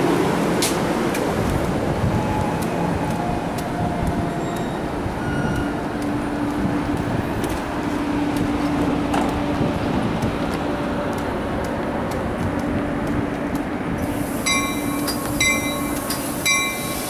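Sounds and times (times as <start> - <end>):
diesel train idling: 0.0 - 17.0.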